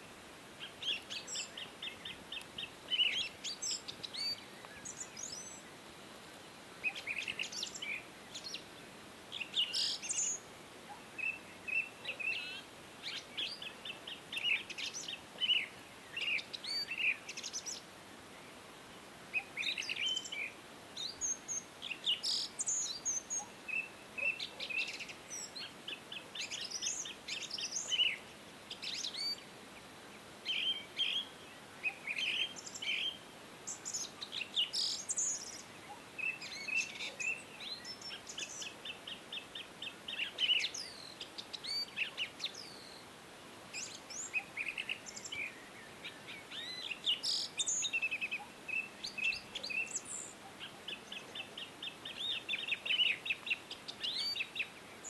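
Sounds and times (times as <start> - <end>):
faint steady hiss: 0.0 - 55.0
small birds chirping and singing: 0.0 - 55.0.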